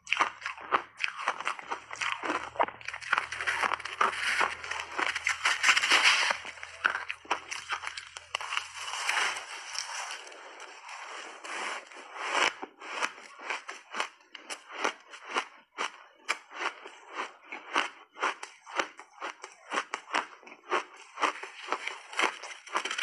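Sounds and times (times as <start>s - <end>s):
chewing crunchy ice: 0.0s - 23.0s.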